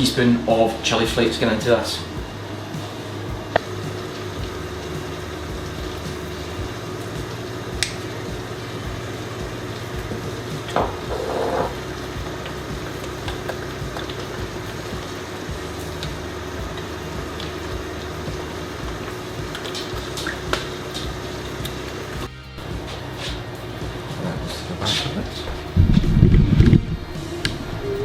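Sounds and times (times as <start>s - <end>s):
kitchen hum and hiss: 0.0s - 28.0s.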